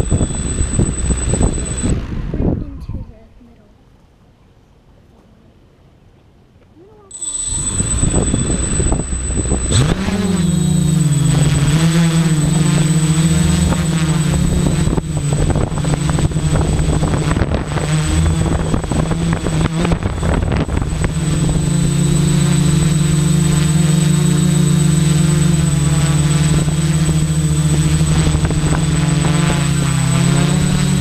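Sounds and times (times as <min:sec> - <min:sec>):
thin high whine: 0:00.0 - 0:02.6, 0:07.1 - 0:31.0
quadcopter motors and propellers: 0:00.0 - 0:02.8, 0:07.1 - 0:31.0.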